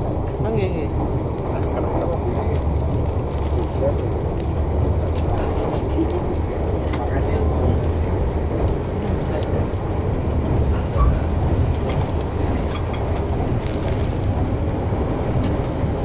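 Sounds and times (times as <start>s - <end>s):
train rumbling inside coach: 0.0s - 16.0s.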